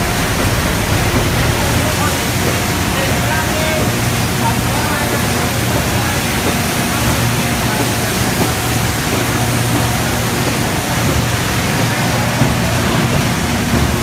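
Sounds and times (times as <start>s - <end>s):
packaging machine humming: 0.0s - 14.0s.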